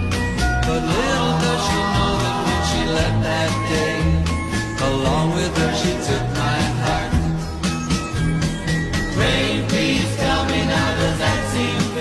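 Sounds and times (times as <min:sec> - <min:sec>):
pop music with bass guitar and drums: 0:00.0 - 0:12.0.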